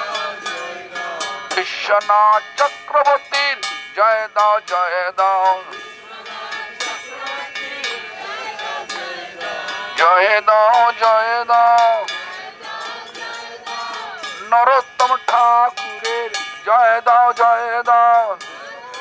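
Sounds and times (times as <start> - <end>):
man chanting through a megaphone: 0.0 - 5.8, 6.8 - 12.2, 14.1 - 19.0
group singing responses: 0.0 - 19.0
hand cymbals clinking: 0.0 - 19.0.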